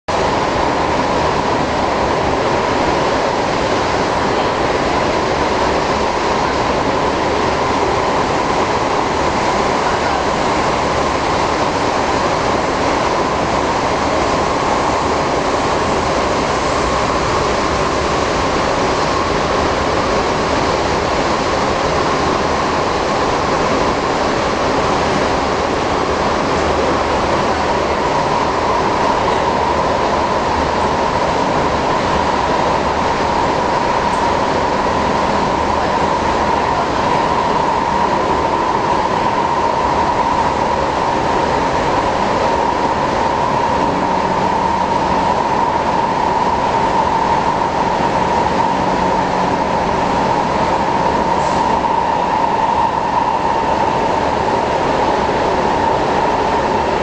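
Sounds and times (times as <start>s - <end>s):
train wheels on rail drone: 0.1s - 57.0s.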